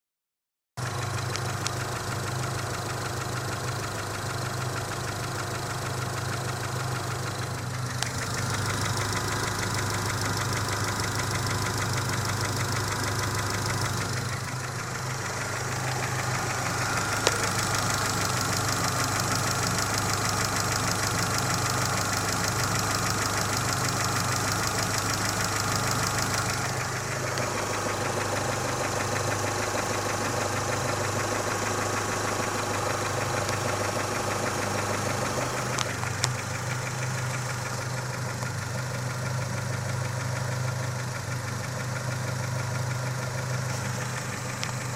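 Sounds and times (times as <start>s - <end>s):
car engine running: 0.8s - 44.9s
rhythmic engine knock: 0.8s - 44.9s.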